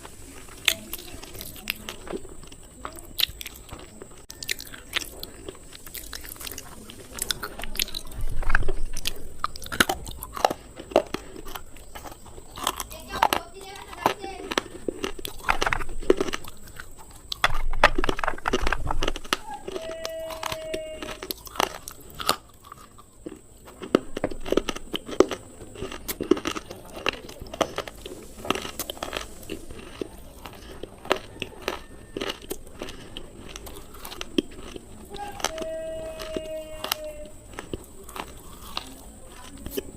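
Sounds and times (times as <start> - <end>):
crunching bites of slate pencil: 0.4 - 39.9.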